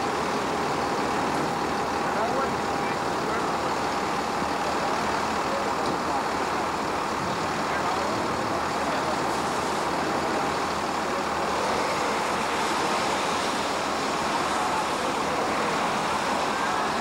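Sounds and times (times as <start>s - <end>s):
emergency vehicles idling: 0.0s - 17.0s
traffic on wet highway: 0.0s - 17.0s.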